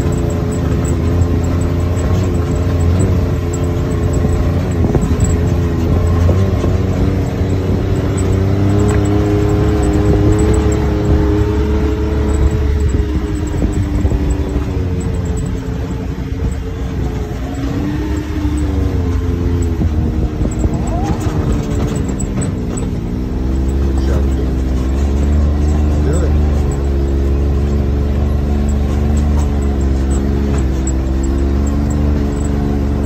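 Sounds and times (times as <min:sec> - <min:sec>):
utility vehicle engine running: 0:00.0 - 0:33.0.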